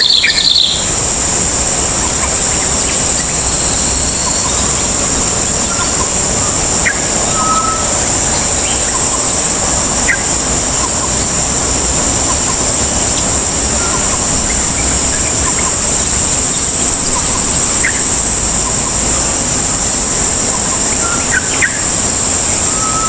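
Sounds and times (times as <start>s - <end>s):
high-pitched hum: 0.0s - 23.0s
outdoor background noise: 0.0s - 23.0s.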